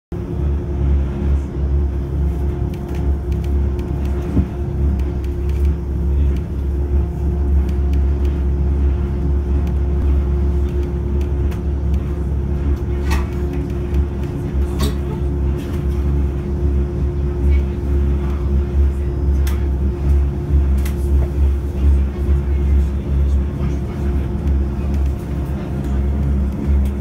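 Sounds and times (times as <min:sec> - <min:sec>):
train low rumble: 0:00.1 - 0:27.0
motor hum: 0:00.2 - 0:27.0.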